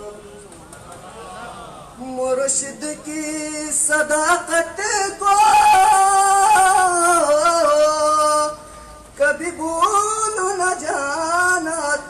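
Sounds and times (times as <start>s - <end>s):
man singing into a microphone: 2.0s - 12.0s.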